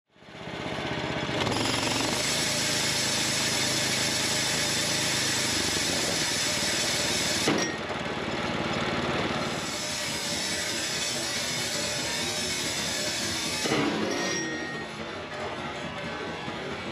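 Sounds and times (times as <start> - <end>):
band sawmill running: 0.2 - 16.9.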